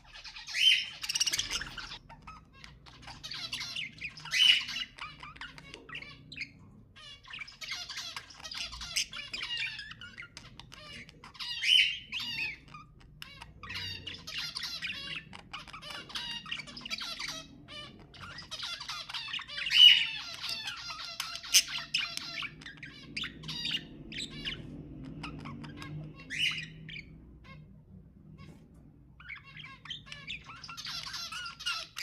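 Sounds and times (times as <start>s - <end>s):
budgerigars chattering and squawking: 0.0s - 32.0s.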